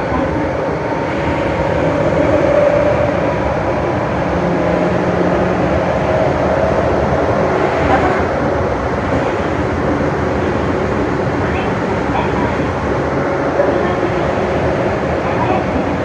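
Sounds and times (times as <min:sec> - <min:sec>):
subway train running noise: 0:00.0 - 0:16.0.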